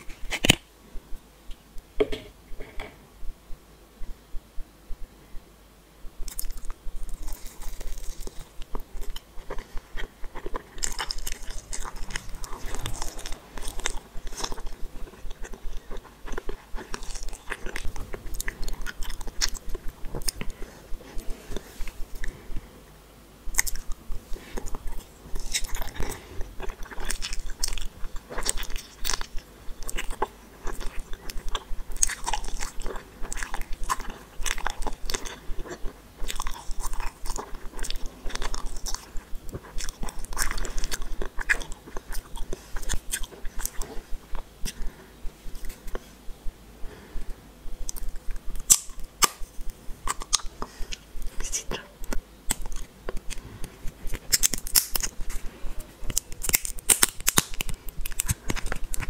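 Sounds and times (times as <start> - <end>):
chewing gummy candy: 6.2 - 22.6, 23.5 - 46.1, 47.2 - 59.0.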